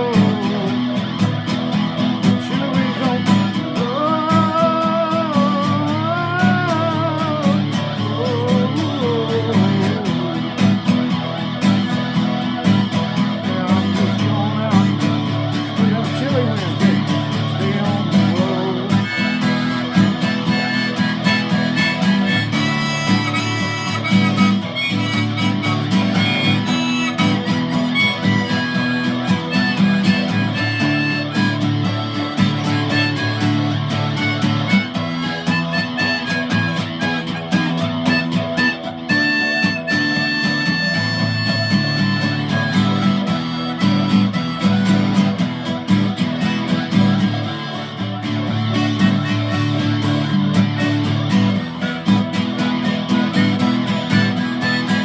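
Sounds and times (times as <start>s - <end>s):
harmonica long notes: 0.0s - 55.0s
strummed blues guitar: 0.0s - 55.0s.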